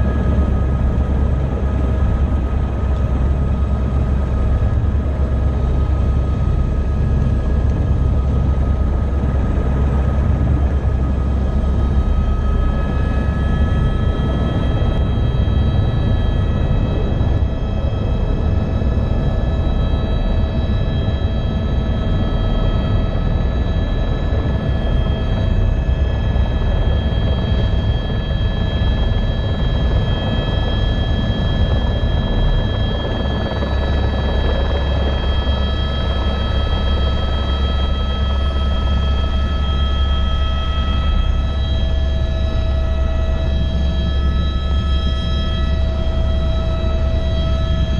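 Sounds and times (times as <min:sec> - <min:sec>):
helicopter rotor and engine: 0:00.0 - 0:47.9.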